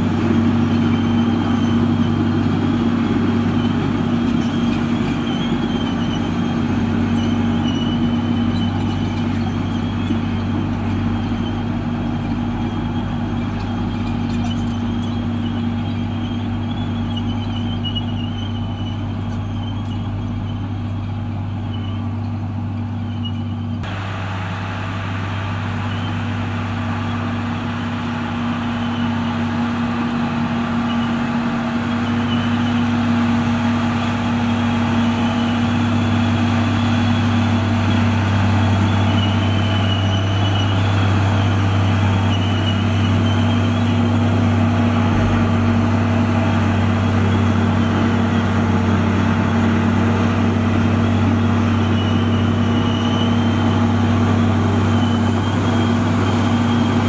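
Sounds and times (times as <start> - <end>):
bulldozer diesel engine drone: 0.0 - 57.0.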